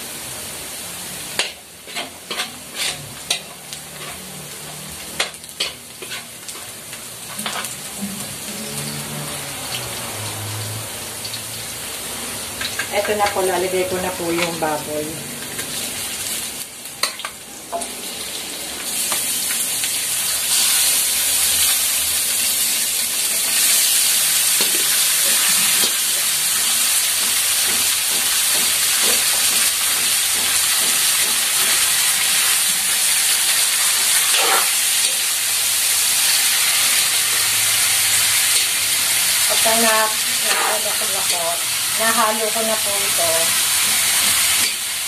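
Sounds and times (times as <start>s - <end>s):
meat sizzling in a wok: 0.0s - 45.0s.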